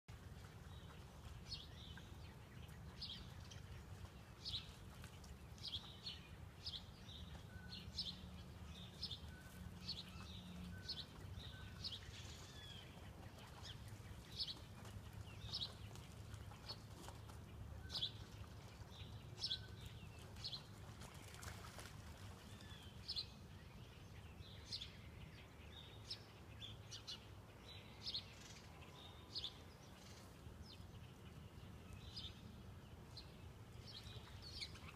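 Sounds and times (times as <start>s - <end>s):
faint birds chirping: 0.1s - 34.9s.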